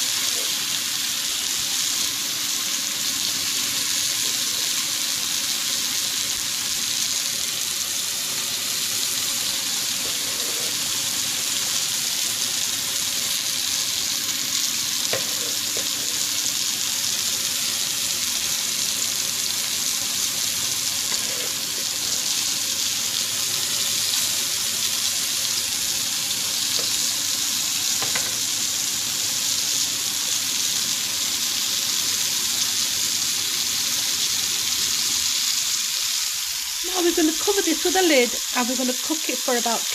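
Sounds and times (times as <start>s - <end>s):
chicken sizzling on a griddle: 0.0s - 39.9s.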